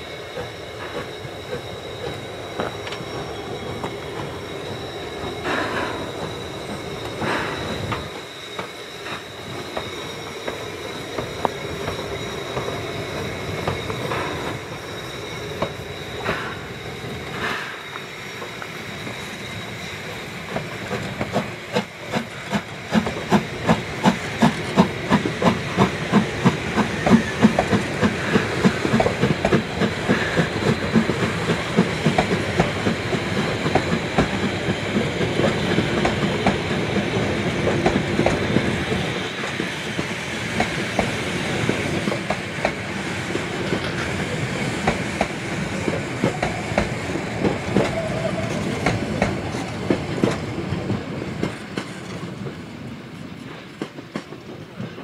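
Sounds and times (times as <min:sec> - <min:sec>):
clacking of train wheels: 0:00.0 - 0:55.0
steam train rolling past: 0:00.0 - 0:55.0.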